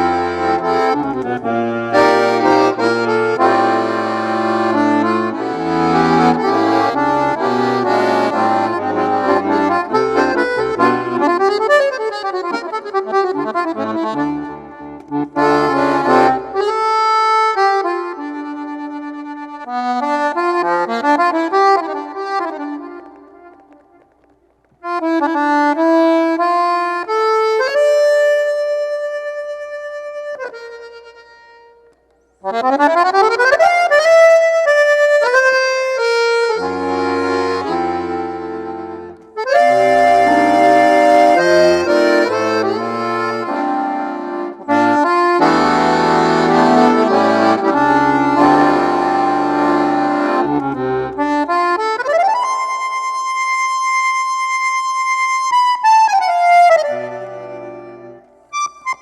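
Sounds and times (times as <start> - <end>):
accordion music: 0.0 - 59.0.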